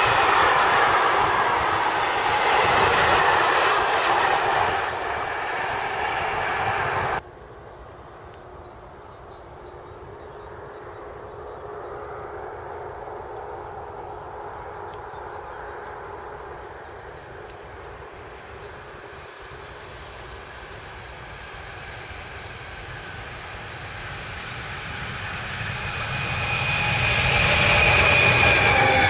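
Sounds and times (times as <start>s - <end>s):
distant drone: 0.0s - 7.2s, 9.4s - 29.0s
train passing close by: 0.0s - 7.2s, 9.7s - 29.0s.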